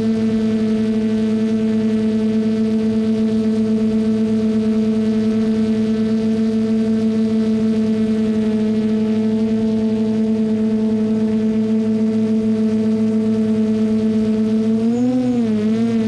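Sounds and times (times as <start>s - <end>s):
drone propellers humming: 0.0s - 16.0s.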